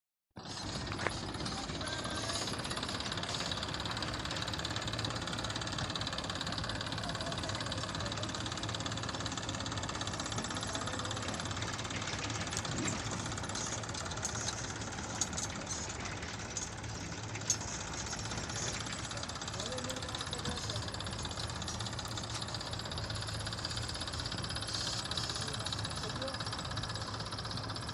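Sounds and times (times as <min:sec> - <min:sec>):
diesel engine running steadily: 0:00.4 - 0:27.9.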